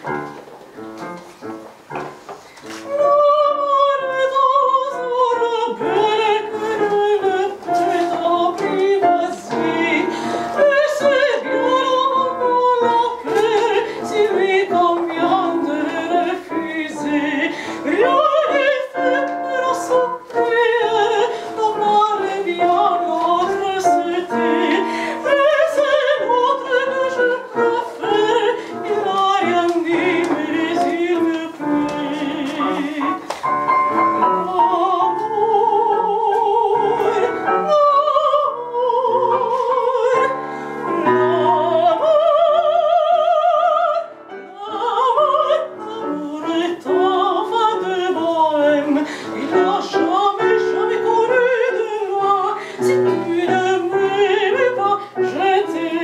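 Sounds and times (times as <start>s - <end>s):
piano accompaniment: 0.0s - 56.0s
soprano singing opera: 2.7s - 33.5s, 34.2s - 56.0s.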